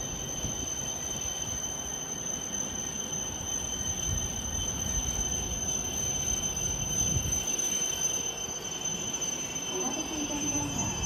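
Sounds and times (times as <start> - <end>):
high-pitched train whine: 0.0 - 11.0
train low rumble: 0.0 - 11.0.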